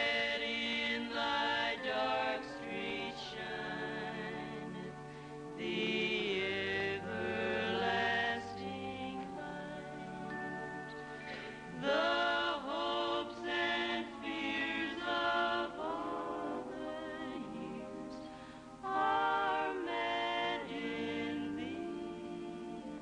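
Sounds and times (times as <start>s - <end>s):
choir singing a carol: 0.0s - 23.0s.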